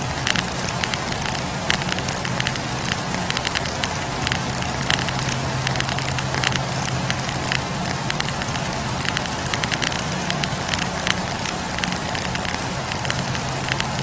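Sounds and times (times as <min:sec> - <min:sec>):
campfire crackling: 0:00.0 - 0:14.0
sharp pops and snaps: 0:00.0 - 0:14.0.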